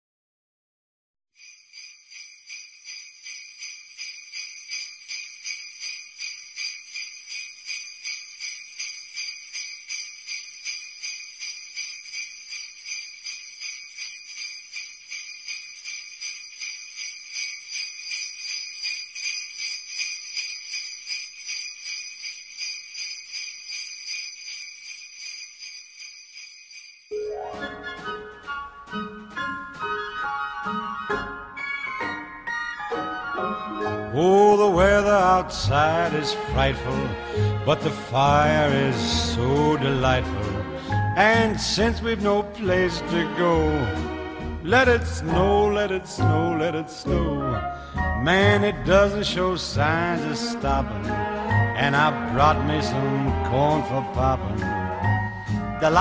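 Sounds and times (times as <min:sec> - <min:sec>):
sleigh bells jingling: 0:01.4 - 0:27.4, 0:33.9 - 0:44.0, 0:44.7 - 0:47.2, 0:48.2 - 0:56.0.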